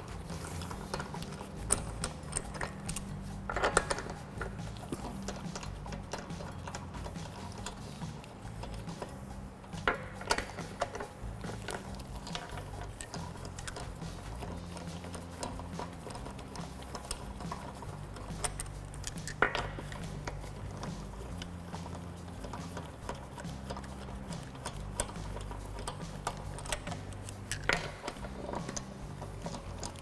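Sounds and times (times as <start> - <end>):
lug nuts ticking on socket: 0.0 - 30.0.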